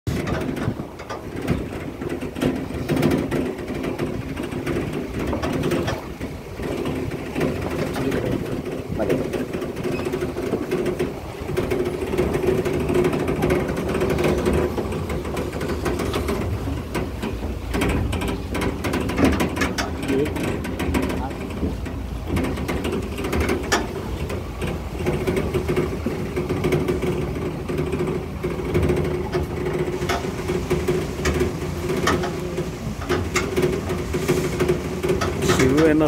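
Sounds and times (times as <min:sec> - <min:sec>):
small knocks on rough track: 0:00.1 - 0:36.0.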